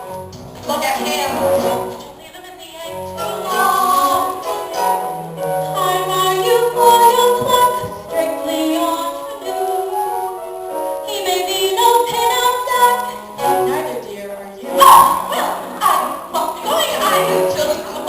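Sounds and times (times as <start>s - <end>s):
instrumental accompaniment: 2.9s - 18.0s
voices singing a melody: 3.0s - 10.4s, 11.0s - 18.0s.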